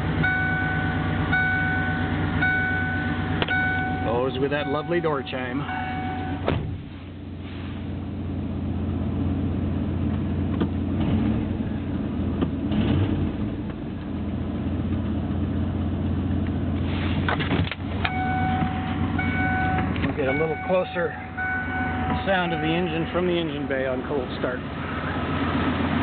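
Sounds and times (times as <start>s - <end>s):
truck engine idling: 0.0s - 12.7s, 13.4s - 26.0s.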